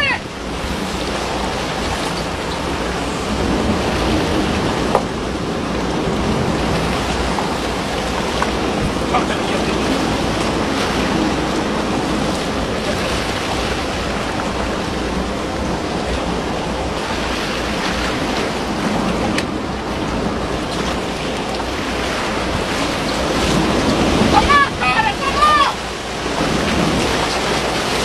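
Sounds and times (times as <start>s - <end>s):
sea water rushing: 0.0s - 28.0s
wind: 0.0s - 28.0s.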